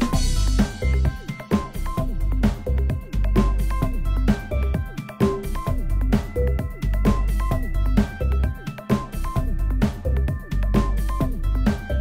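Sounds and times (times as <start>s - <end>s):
electronic music with heavy bass: 0.0s - 12.0s
steady drum beat: 0.0s - 12.0s.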